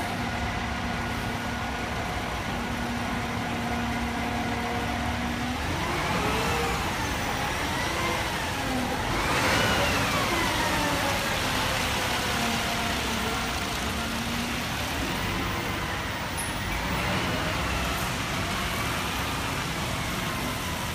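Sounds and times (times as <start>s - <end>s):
fire engine siren: 0.0s - 20.9s
street traffic: 0.0s - 20.9s
truck engine running: 0.0s - 20.9s.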